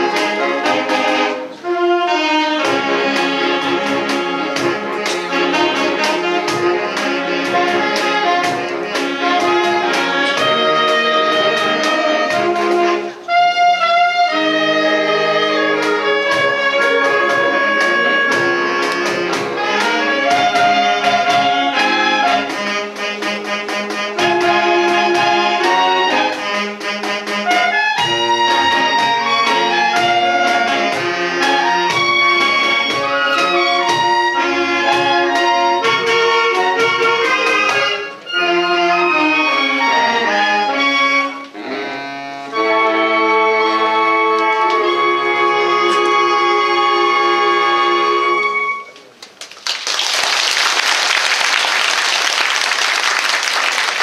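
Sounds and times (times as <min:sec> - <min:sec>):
saxophone ensemble playing: 0:00.0 - 0:49.2.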